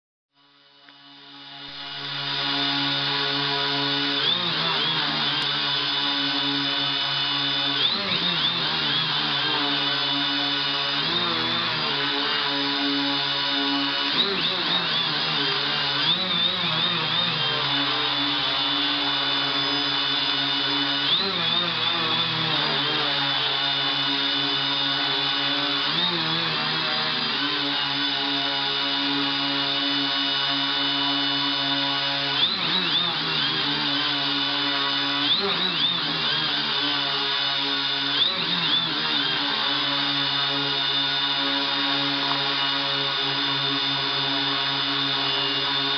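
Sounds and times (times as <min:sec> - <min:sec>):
quadcopter propellers buzzing: 0:00.8 - 0:45.9.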